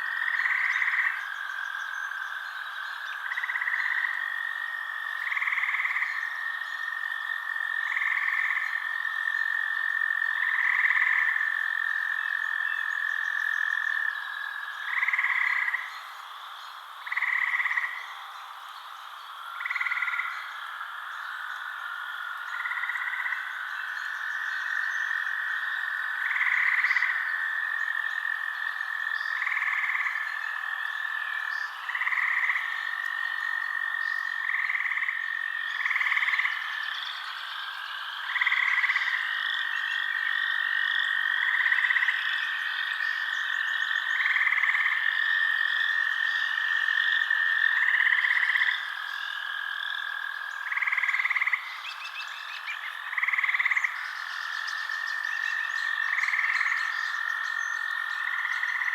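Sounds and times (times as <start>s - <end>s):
frogs croaking: 0.0s - 58.9s.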